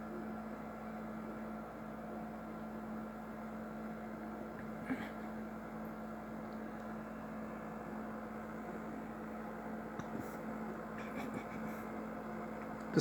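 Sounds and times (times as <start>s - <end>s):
steady stove hum: 0.0s - 13.0s.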